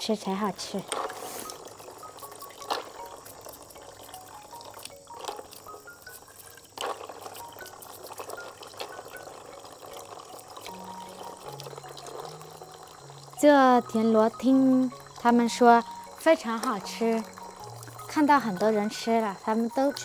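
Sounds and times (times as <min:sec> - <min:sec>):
water sloshing: 0:00.1 - 0:20.0
toothbrush scrubbing shells: 0:00.6 - 0:20.0.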